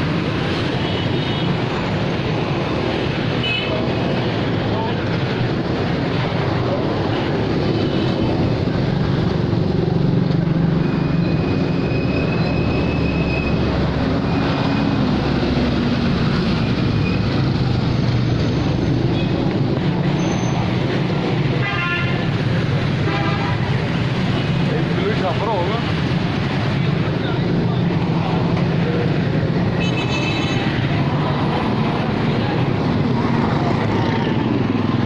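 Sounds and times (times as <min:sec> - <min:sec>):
motorcycle engines running: 0:00.0 - 0:29.8, 0:30.6 - 0:35.0.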